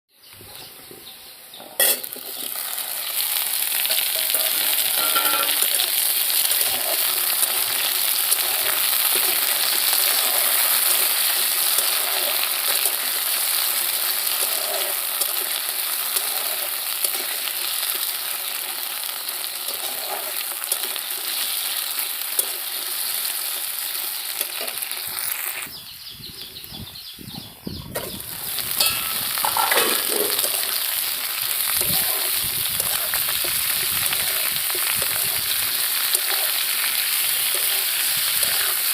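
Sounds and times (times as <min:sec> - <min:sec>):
food sizzling in hot oil: 0:01.4 - 0:25.7, 0:27.9 - 0:38.9.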